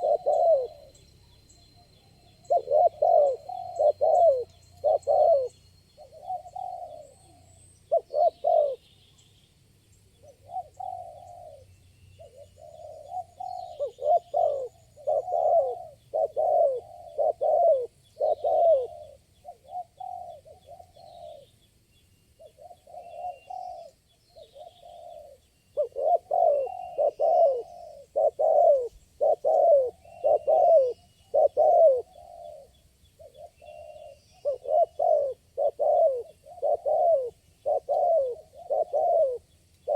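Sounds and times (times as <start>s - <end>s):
doves cooing: 0.0s - 8.8s, 10.2s - 21.6s, 22.4s - 39.9s.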